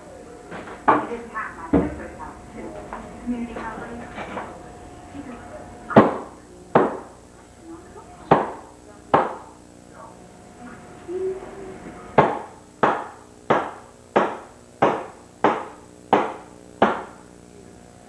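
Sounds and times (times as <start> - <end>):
hammer strikes ringing: 0.3 - 7.2, 8.2 - 9.6, 10.8 - 17.2.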